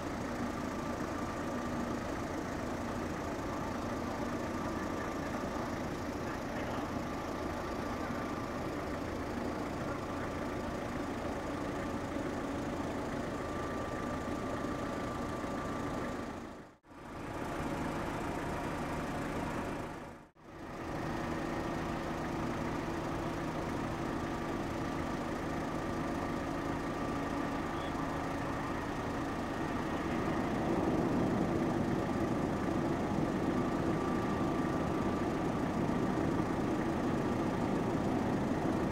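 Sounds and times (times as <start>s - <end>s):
faint steady tones: 0.0s - 38.9s
ship engine low hum: 0.0s - 38.9s.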